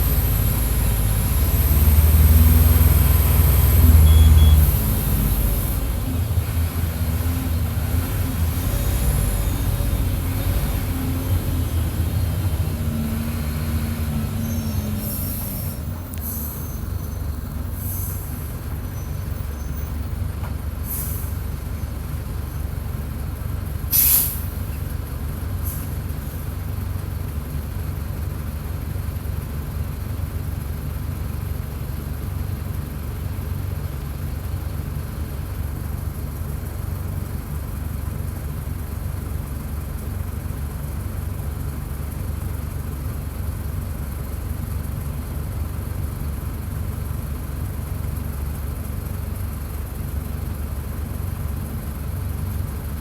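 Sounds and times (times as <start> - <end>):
diesel bus engine running: 0.0 - 53.0.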